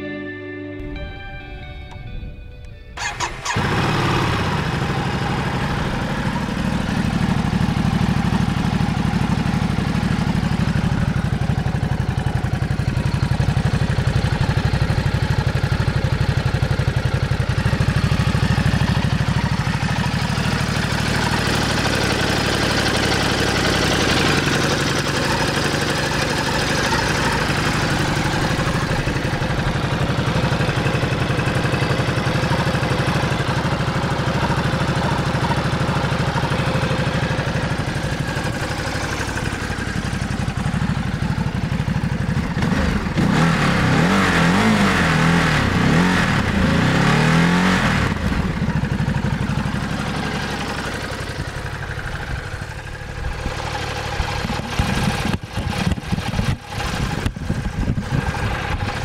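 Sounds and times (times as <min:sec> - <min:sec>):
motorcycle engine revving: 0:03.0 - 0:59.0.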